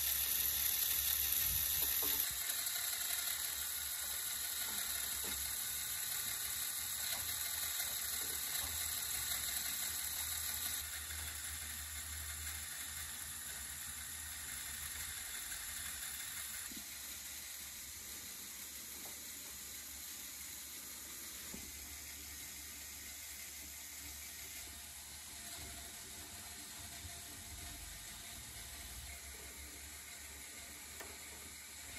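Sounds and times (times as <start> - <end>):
toy motor and pulleys whirring: 0.0 - 31.9.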